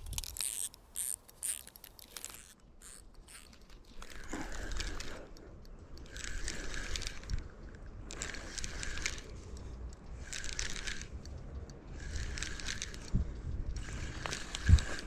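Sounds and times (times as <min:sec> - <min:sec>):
sharp clicks: 0:00.0 - 0:15.0
reel bursts: 0:00.1 - 0:05.4, 0:06.0 - 0:07.4, 0:08.1 - 0:11.2, 0:11.9 - 0:13.2, 0:13.8 - 0:15.0.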